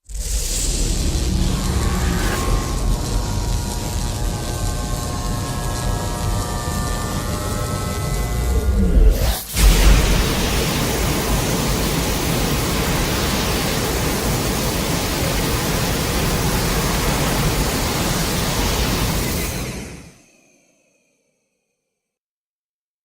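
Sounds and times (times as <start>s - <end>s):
sudden loud burst: 0.0s - 20.2s
steady rushing noise: 0.1s - 20.1s.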